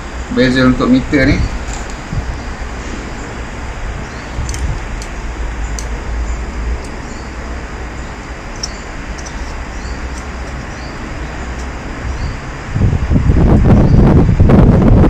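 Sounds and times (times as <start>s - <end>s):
low background rumble and hiss: 0.0s - 15.0s.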